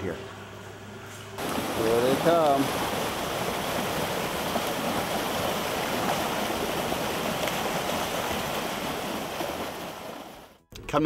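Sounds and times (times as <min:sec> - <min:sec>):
water rushing into pool: 0:01.4 - 0:10.6.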